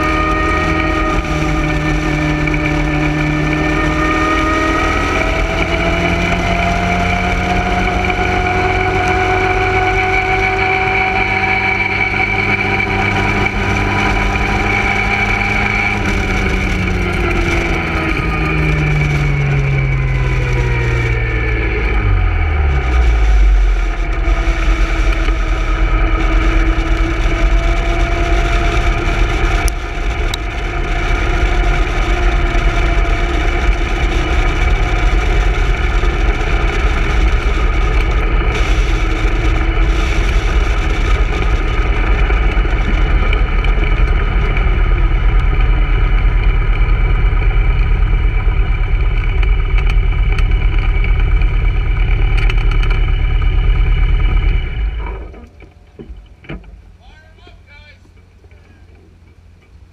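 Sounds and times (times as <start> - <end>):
wind rumble on microphone: 0.0 - 56.9
racing car engine running: 0.0 - 59.9.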